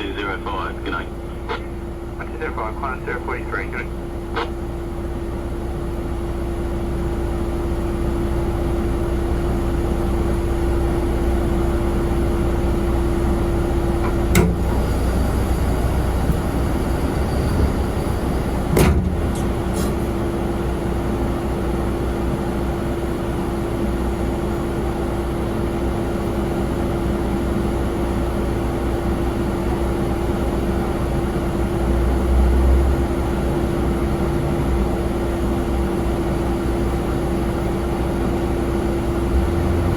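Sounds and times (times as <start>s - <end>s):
machinery drone with hum: 0.0s - 39.9s.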